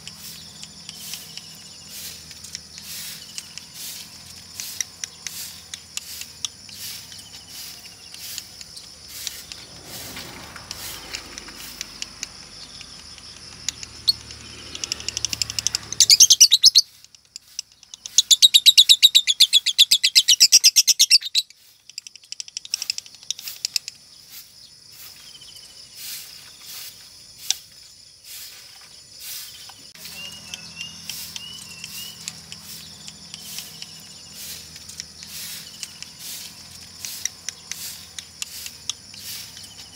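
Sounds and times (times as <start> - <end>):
lovebird rapid trill: 0.0 - 39.9
lovebird ticks and chirps: 0.0 - 39.9.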